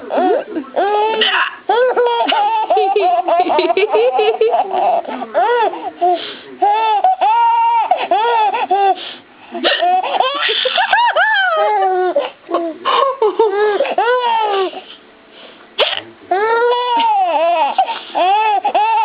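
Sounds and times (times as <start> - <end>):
baby laughing: 0.0 - 14.9, 16.3 - 19.0.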